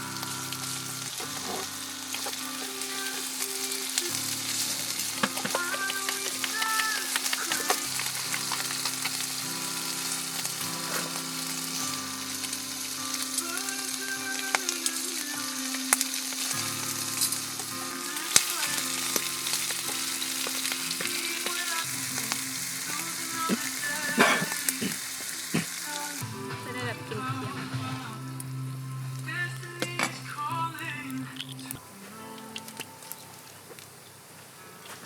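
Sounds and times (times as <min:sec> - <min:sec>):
food sizzling in a frying pan: 0:00.0 - 0:34.2
background music: 0:00.0 - 0:35.0.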